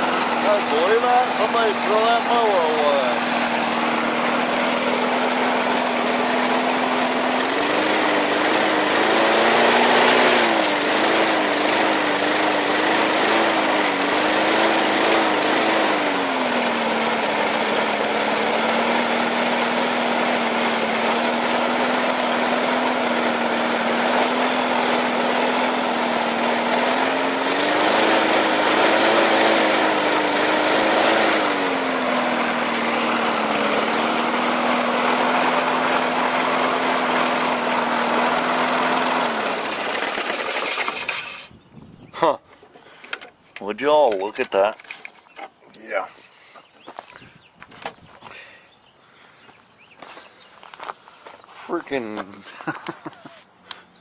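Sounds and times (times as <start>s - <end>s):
lawn mower engine running: 0.0s - 41.6s, 42.5s - 45.5s, 50.0s - 54.0s.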